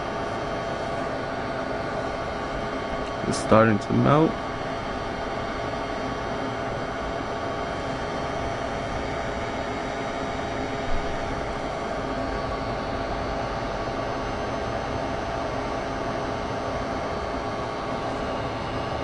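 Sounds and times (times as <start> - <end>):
fan whine: 0.0 - 19.0.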